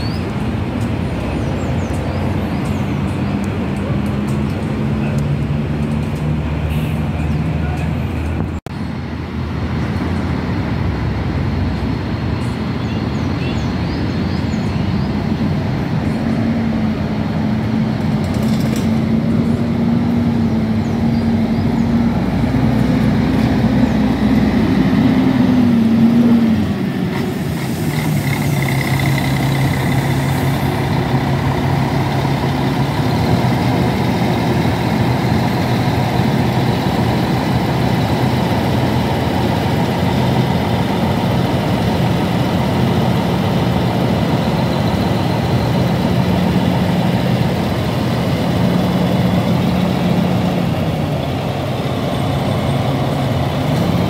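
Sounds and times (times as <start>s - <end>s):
coach diesel engine passing: 0.0s - 54.0s.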